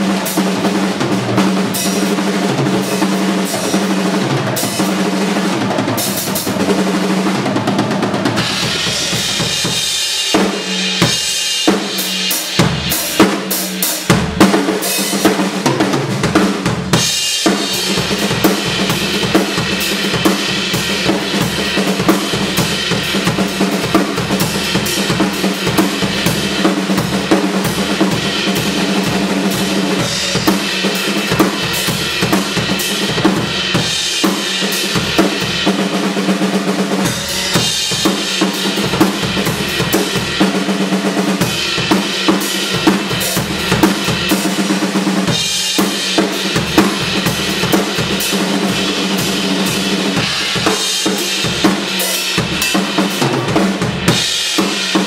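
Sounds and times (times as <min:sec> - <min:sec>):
cymbals: 0:08.2 - 0:55.0.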